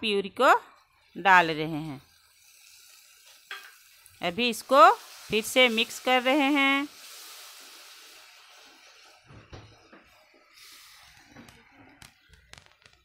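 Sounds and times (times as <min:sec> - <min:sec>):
food sizzling in a pan: 0:00.7 - 0:13.0.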